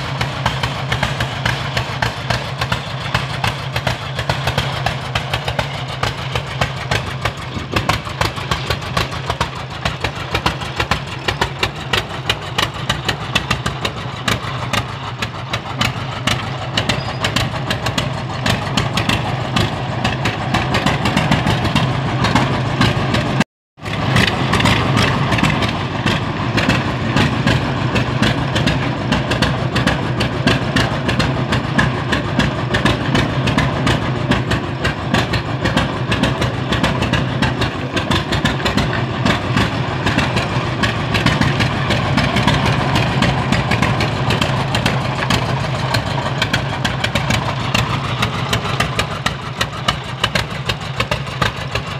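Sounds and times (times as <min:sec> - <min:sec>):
tractor engine popping: 0:00.0 - 0:51.9.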